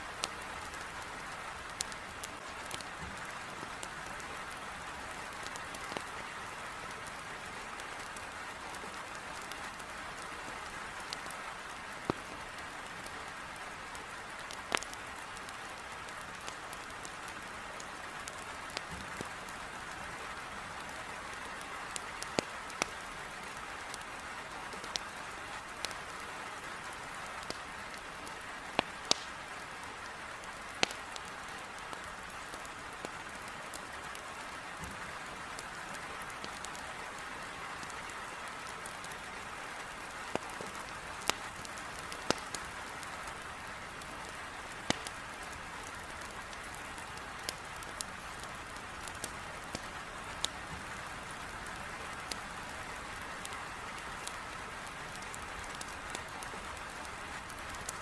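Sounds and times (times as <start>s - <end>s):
rain against a window: 0.0s - 58.0s
wood fire crackling: 0.0s - 58.0s.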